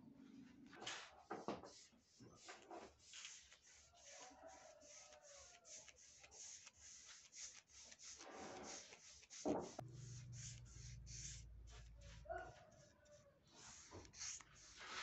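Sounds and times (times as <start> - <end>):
brush strokes on wood: 1.2 - 15.0.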